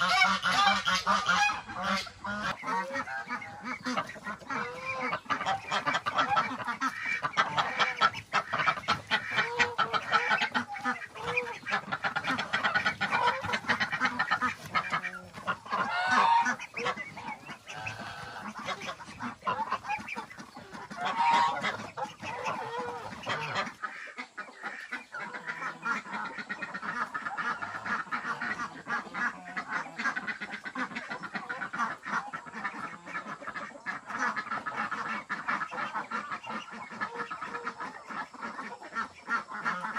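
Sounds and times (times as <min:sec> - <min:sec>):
low background noise: 0:00.0 - 0:39.9
poultry calling: 0:00.0 - 0:39.9.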